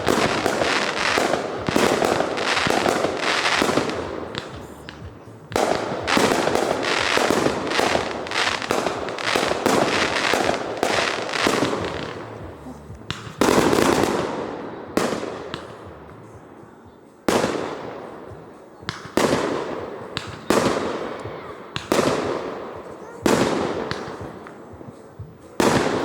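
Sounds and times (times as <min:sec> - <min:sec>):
fireworks exploding: 0:00.0 - 0:26.0.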